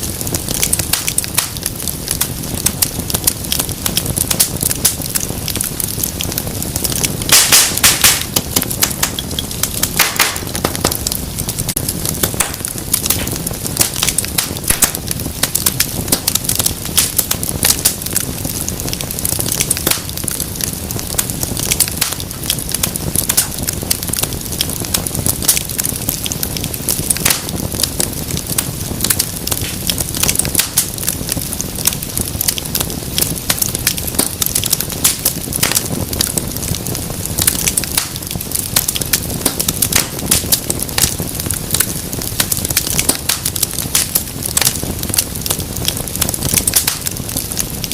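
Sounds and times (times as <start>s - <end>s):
low rush of flames: 0.0s - 47.9s
wood fire crackling and popping: 0.0s - 47.9s.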